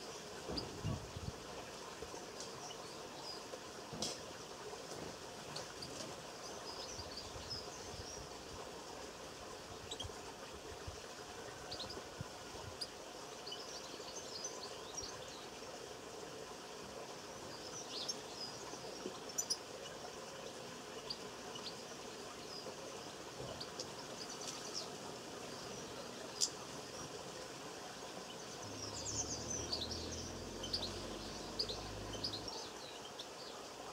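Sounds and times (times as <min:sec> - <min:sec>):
small birds chirping: 0:00.0 - 0:04.4, 0:05.4 - 0:08.7, 0:09.5 - 0:10.6, 0:12.7 - 0:16.1, 0:17.1 - 0:33.9.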